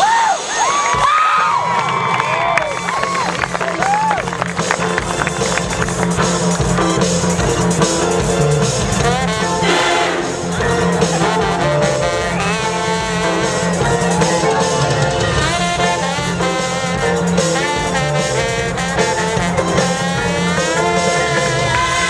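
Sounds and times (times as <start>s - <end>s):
marching band playing: 3.4s - 22.0s.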